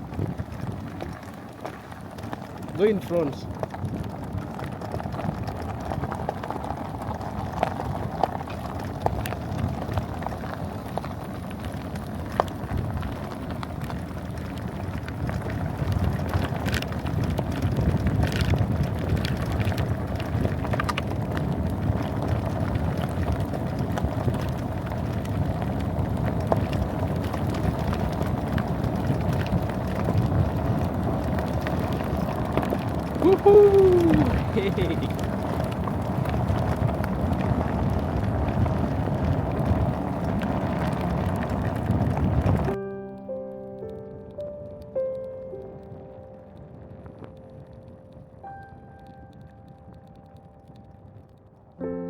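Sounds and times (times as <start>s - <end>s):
mini bike engine running: 0.0s - 42.8s
wind on microphone: 0.0s - 42.8s.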